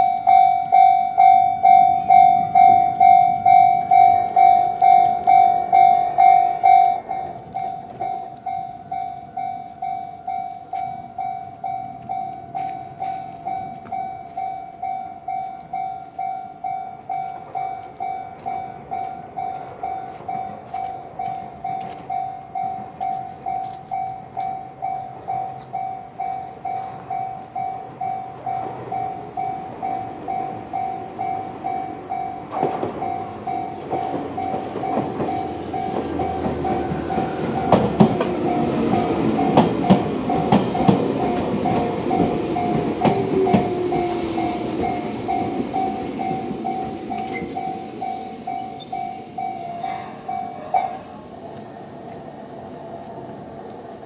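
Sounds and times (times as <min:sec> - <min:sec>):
wheels clacking over rail joints: 0:00.0 - 0:52.2
level crossing warning bell: 0:00.0 - 0:52.7
electric train passing: 0:00.0 - 0:54.0.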